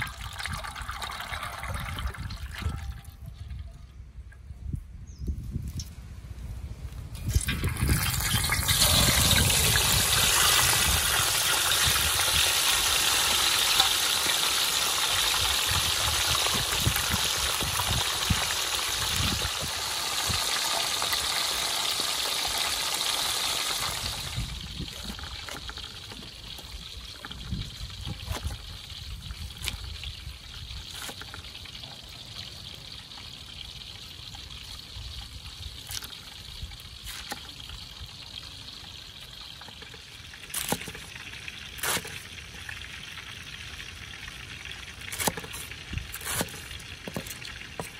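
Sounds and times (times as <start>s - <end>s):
fish sizzling in hot oil: 7.2s - 47.9s.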